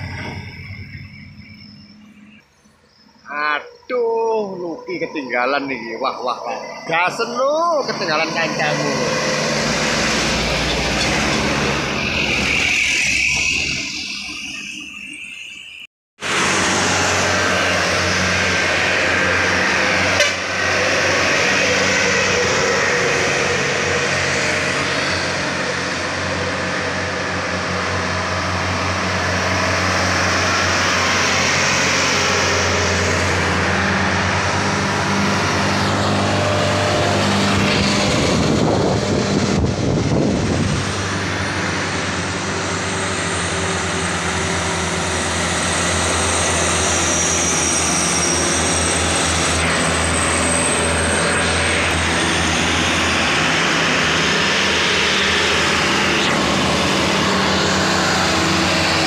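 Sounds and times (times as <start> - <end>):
truck diesel engines droning: 0.0 - 59.0
rush of noise: 3.0 - 15.2, 16.2 - 59.0.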